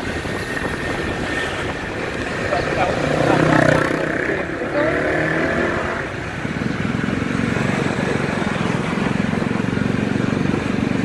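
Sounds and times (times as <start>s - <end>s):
motorbike engine running: 0.0s - 11.0s
road noise: 0.0s - 11.0s.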